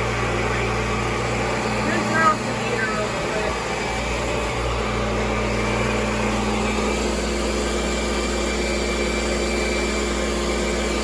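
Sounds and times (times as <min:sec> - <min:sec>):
upright vacuum cleaner running: 0:00.0 - 0:11.0.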